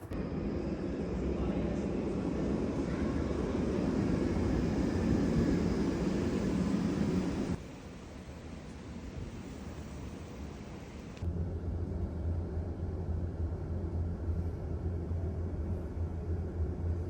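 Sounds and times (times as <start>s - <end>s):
noisy rumble with hiss: 0.0s - 17.0s.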